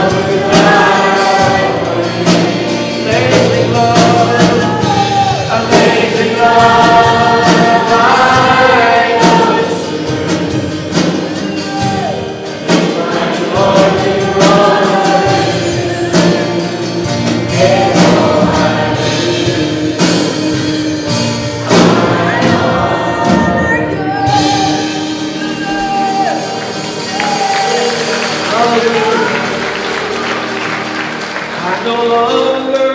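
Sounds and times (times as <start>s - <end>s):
band accompaniment with steady beat: 0.0s - 32.9s
group singing worship song: 0.0s - 32.9s.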